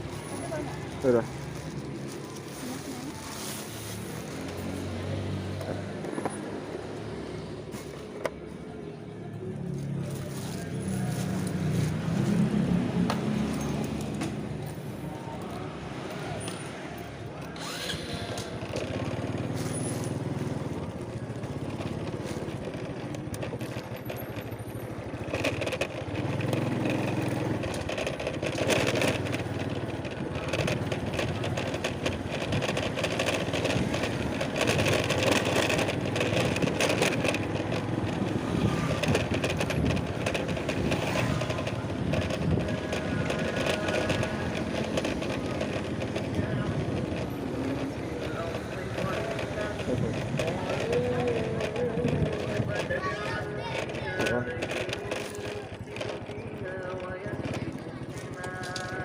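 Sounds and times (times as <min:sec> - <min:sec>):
vehicle and road noise: 0:00.0 - 0:59.0.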